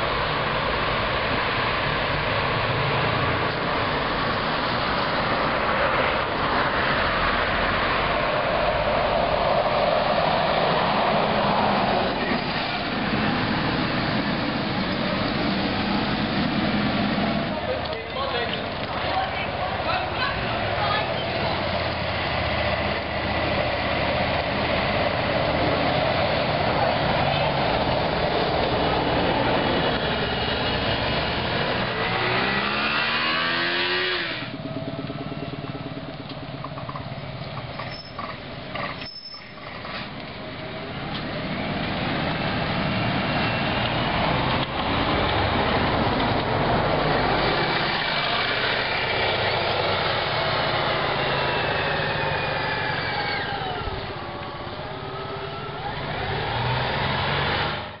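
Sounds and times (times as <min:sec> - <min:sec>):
bus engine whining: 0:00.0 - 0:58.0
tyre and road noise: 0:00.0 - 0:58.0.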